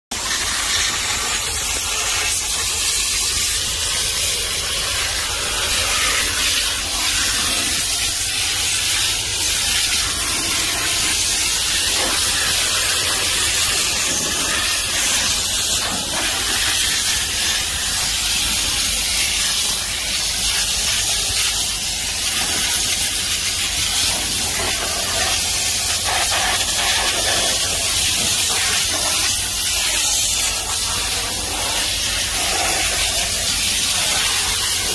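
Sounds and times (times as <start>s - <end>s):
steam cleaner hissing: 0.1s - 34.9s.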